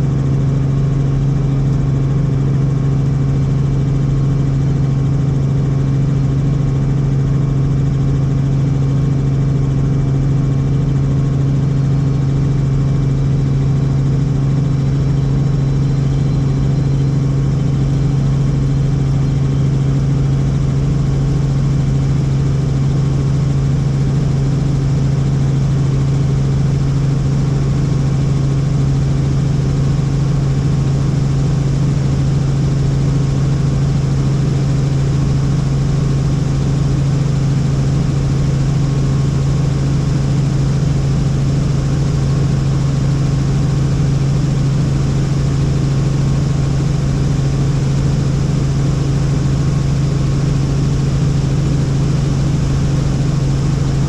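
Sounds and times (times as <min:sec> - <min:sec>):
helicopter engine and rotors: 0:00.0 - 0:54.0.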